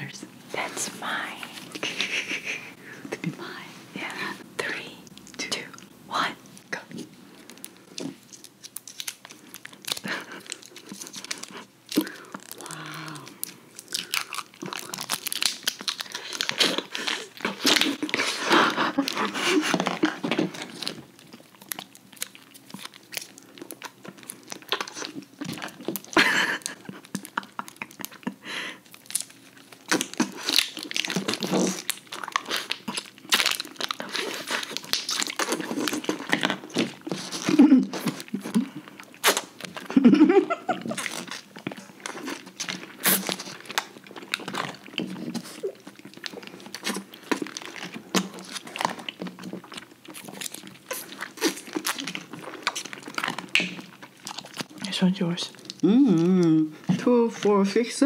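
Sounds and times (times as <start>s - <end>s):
jelly sucking and squeezing: 2.8s - 40.0s, 40.8s - 57.6s
chewing: 6.9s - 57.0s
plastic wrappers crinkling: 7.0s - 58.0s.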